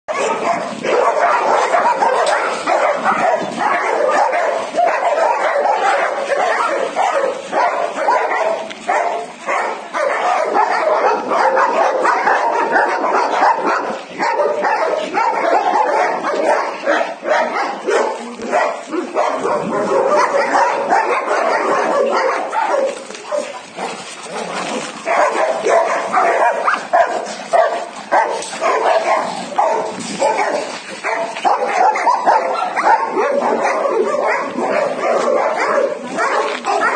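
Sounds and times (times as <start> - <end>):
dogs barking and yipping: 0.1 - 36.9.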